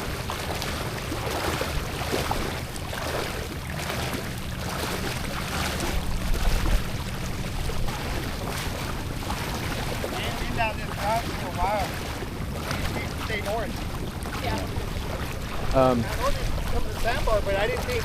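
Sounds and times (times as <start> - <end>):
motorboat engine drone: 0.0 - 18.0.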